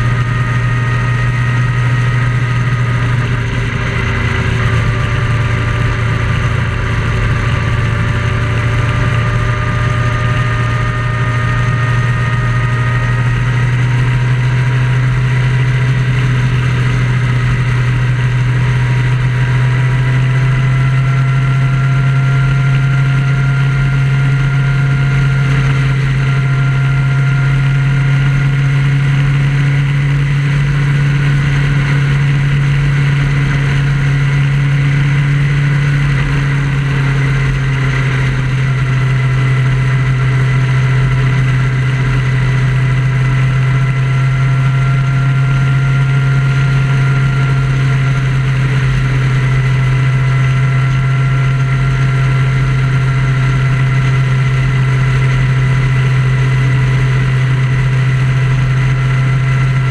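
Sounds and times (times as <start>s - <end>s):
road noise: 0.0s - 59.9s
vehicle engine humming: 0.0s - 59.9s.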